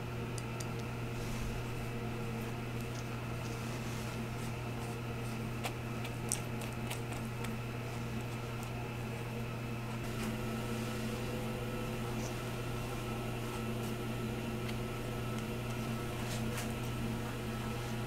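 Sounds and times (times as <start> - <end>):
kitchen appliance electrical hum: 0.0 - 18.0.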